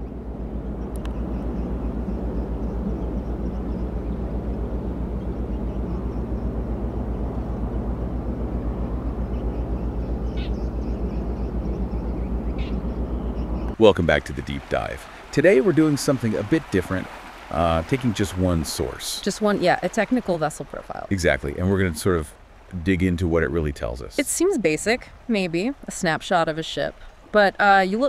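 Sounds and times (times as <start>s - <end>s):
ship engine throbbing: 0.0s - 26.5s.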